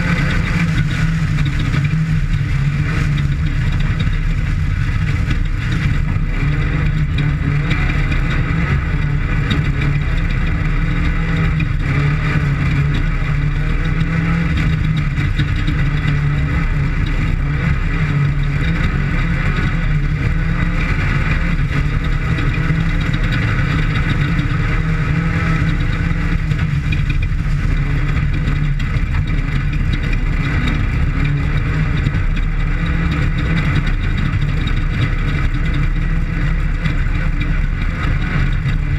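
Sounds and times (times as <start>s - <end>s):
race vehicle engine running hard: 0.0s - 38.9s.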